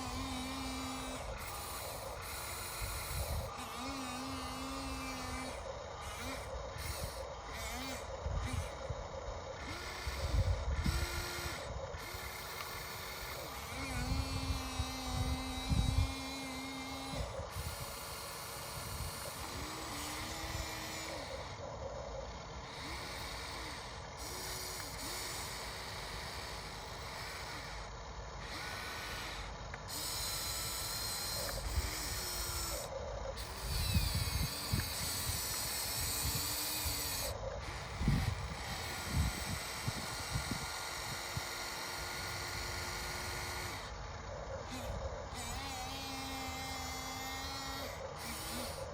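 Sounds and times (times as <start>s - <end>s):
hydraulic pump whining: 0.0s - 48.9s.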